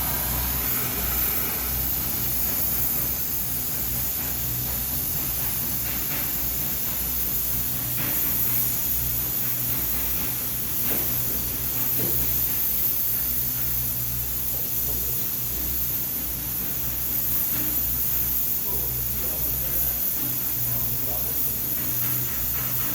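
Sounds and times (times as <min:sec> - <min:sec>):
steady hissing noise: 0:00.0 - 0:22.9.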